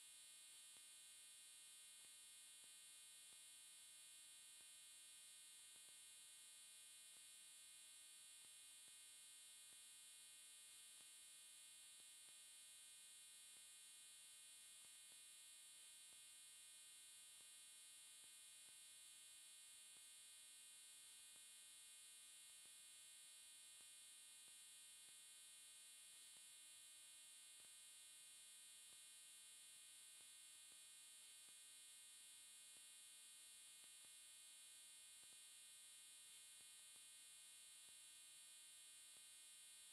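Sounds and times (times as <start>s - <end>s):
faint electrical hum with whine: 0.0s - 39.9s.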